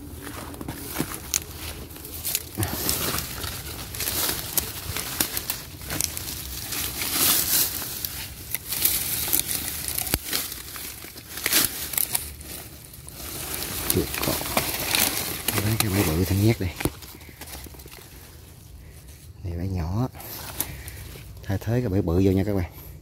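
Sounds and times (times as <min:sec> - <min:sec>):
dry undergrowth rustling and crackling: 0:00.0 - 0:23.0.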